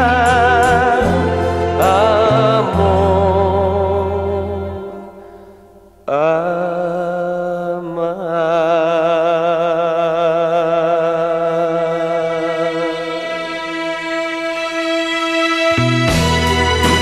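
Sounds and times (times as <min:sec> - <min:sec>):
man singing held note: 0:00.0 - 0:14.8.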